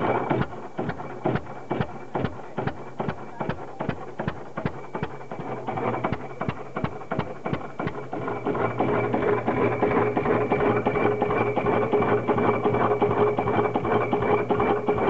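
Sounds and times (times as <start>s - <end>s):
stationary engine running: 0.0s - 15.0s.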